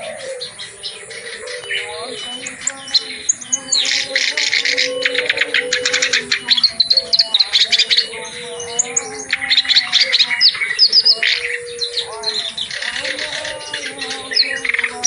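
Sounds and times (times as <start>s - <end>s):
warbler singing chattering song: 0.0s - 15.0s.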